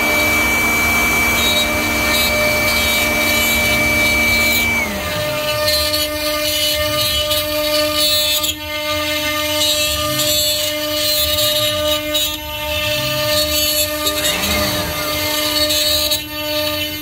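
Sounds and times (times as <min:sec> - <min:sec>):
power tool motor whine on wood: 0:00.0 - 0:17.0.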